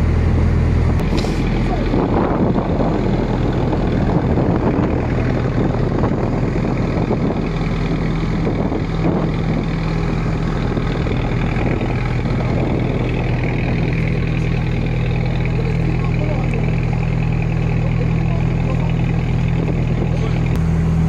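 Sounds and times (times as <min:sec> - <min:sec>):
boat engine humming: 0:00.0 - 0:21.0
water rushing: 0:00.0 - 0:21.0
wind: 0:00.0 - 0:21.0.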